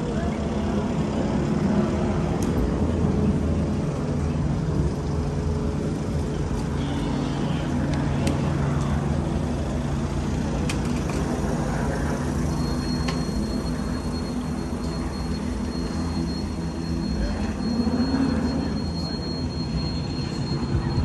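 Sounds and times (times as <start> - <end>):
car engines running at low revs: 0.0 - 21.0
street traffic: 0.0 - 21.0.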